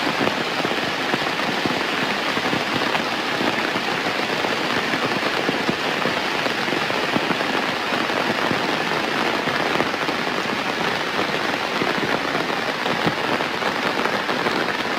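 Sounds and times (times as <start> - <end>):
heavy rain pattering: 0.0 - 14.9.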